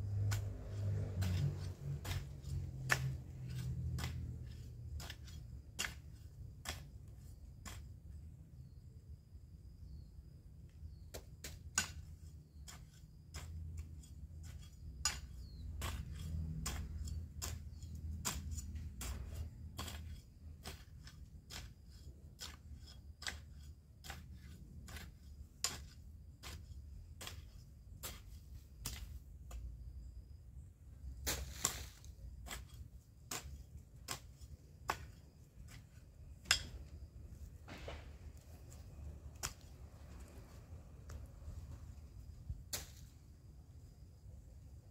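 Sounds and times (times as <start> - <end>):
hoe chopping into soil: 0.1 - 8.1, 11.1 - 29.8, 31.0 - 40.3, 42.5 - 43.3.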